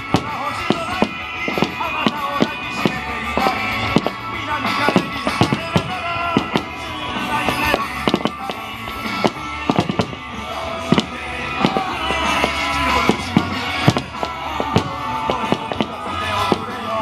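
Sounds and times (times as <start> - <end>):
fireworks bangs: 0.0 - 17.0
music playing: 0.0 - 17.0.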